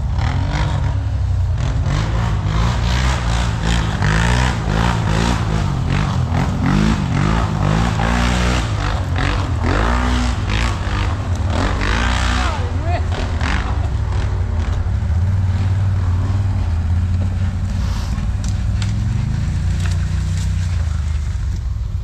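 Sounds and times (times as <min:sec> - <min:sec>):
off-road vehicle engine: 0:00.0 - 0:22.0
rattles and scrapes: 0:03.2 - 0:22.0.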